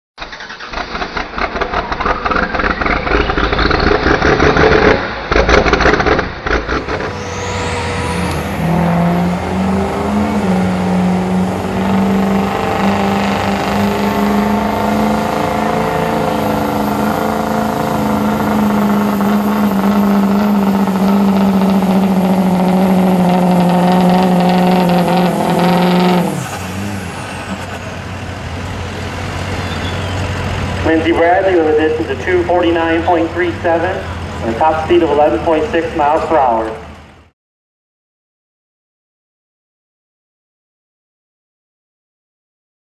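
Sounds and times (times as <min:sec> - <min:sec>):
diesel engine under heavy load: 0:00.2 - 0:37.3.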